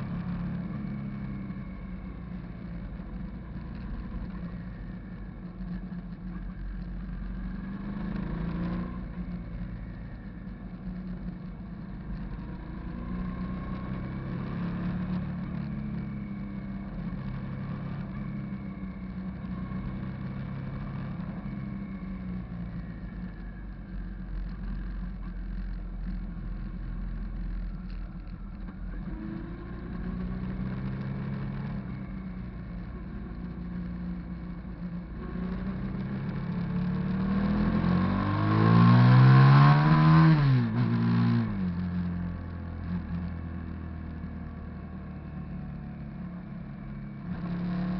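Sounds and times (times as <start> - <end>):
motorcycle engine while riding: 0.0 - 47.9.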